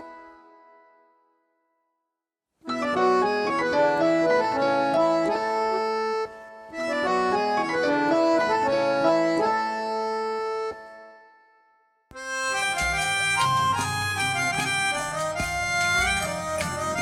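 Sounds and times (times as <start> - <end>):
harmonium playing ringtone melody: 0.0 - 1.1, 2.6 - 17.0.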